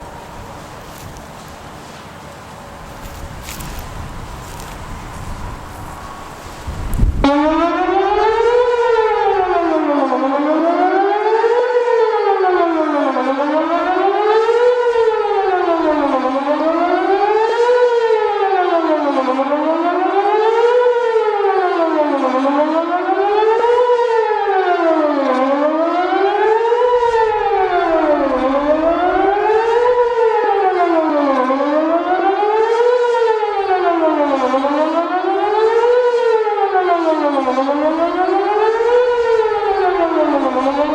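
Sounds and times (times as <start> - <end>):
rising and falling warning siren: 0.0 - 40.9.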